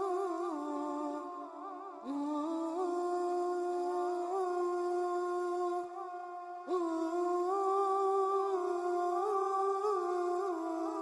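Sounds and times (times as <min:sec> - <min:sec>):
slow wordless humming: 0:00.0 - 0:11.0.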